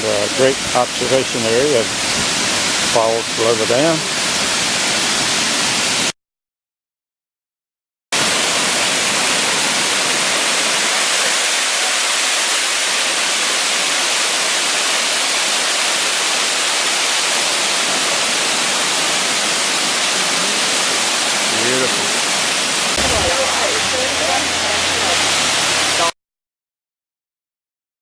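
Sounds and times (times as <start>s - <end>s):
waterfall rushing: 0.0s - 6.1s, 8.2s - 26.2s.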